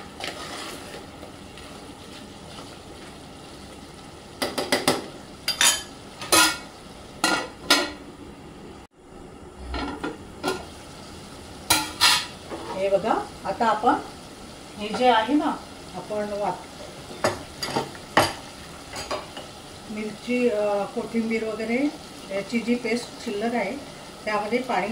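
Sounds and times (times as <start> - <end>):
meat sizzling in a pot: 0.0 - 8.2, 9.4 - 24.9.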